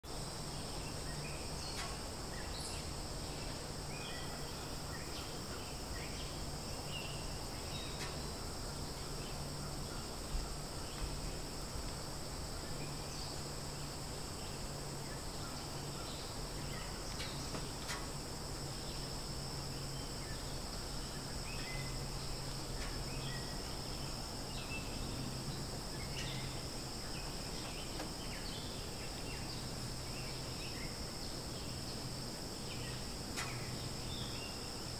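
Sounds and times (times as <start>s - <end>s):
insects droning: 0.0s - 34.9s
low steady hum: 0.1s - 34.9s.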